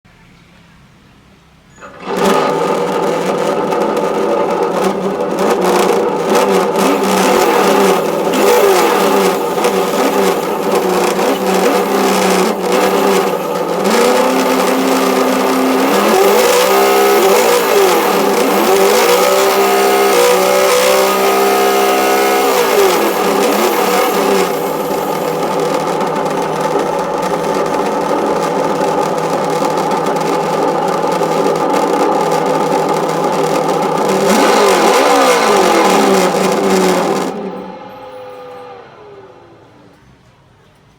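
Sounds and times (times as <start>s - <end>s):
simulated engine idling and revving: 1.8s - 40.3s.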